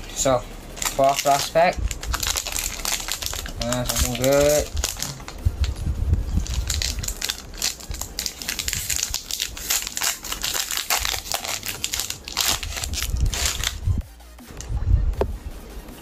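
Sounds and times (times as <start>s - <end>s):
foil wrapper crinkling and tearing: 0.8s - 13.8s.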